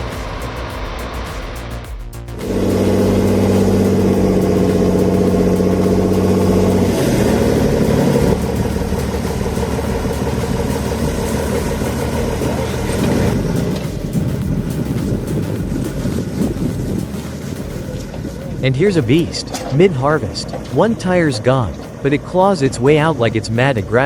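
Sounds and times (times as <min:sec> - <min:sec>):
machine engine running: 0:02.3 - 0:23.7.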